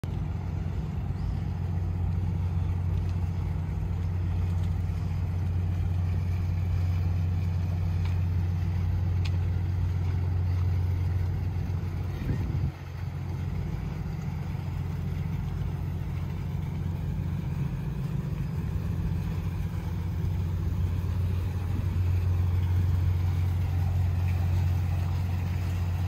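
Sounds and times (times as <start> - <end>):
ship machinery hum: 0.0 - 26.0.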